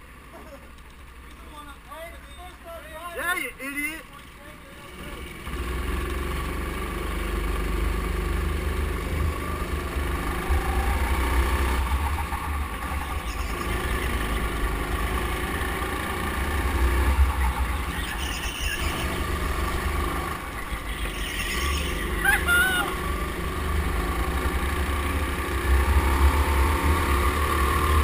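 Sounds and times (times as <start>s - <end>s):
go-kart engine rumble: 0.0s - 28.0s.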